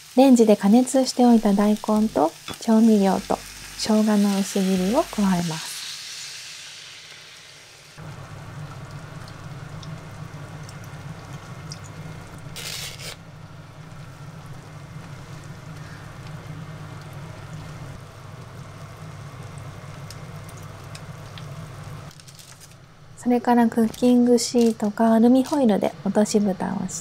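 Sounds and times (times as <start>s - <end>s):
gas burner low rush: 0.0s - 22.1s.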